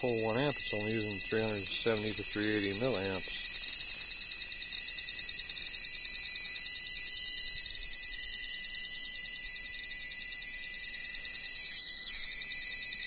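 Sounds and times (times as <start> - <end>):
high-pitched whine: 0.0 - 13.0
voltage tester clicking beep: 0.0 - 13.0.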